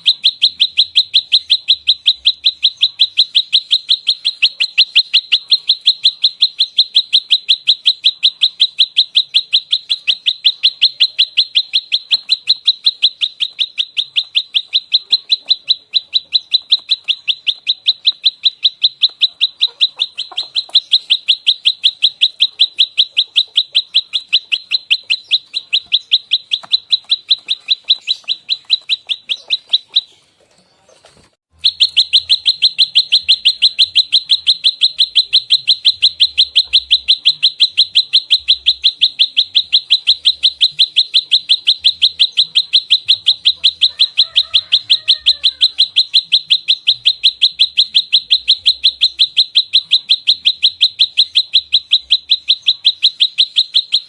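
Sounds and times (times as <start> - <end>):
bird chirping rapidly: 0.0 - 54.0.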